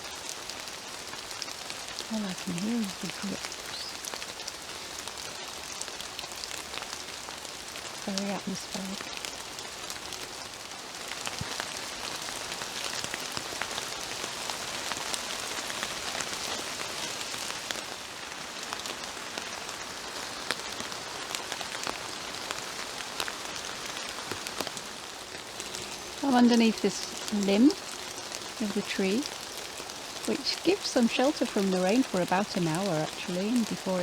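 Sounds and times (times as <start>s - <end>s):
drips pattering on leaves: 0.0s - 34.0s
gentle rain: 0.0s - 34.0s.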